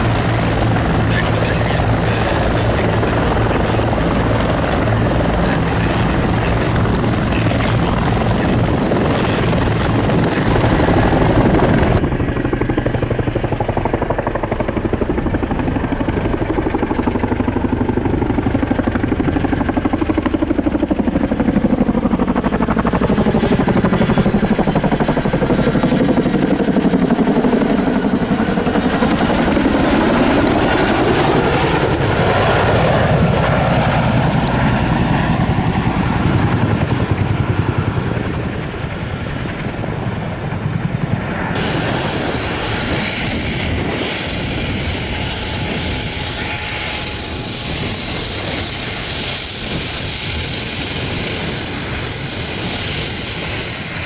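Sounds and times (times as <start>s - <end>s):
helicopter flying overhead: 0.0s - 54.0s
helicopter running on ground: 0.0s - 54.0s.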